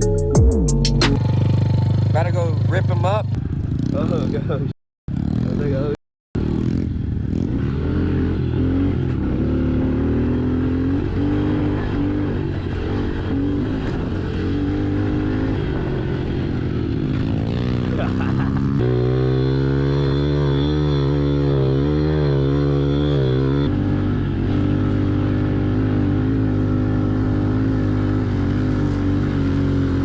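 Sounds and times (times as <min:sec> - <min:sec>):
pit bike engine running: 0:01.0 - 0:05.8, 0:06.4 - 0:30.0.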